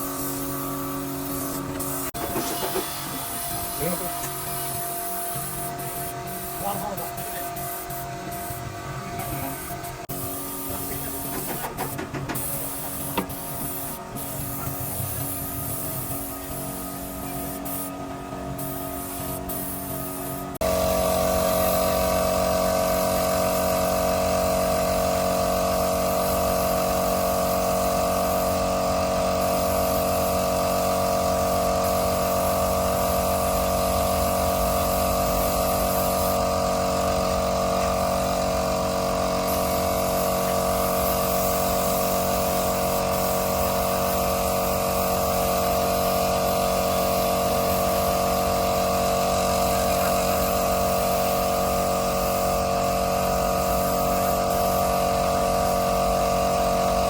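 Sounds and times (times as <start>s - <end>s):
motor-driven machine whining: 0.0s - 57.0s.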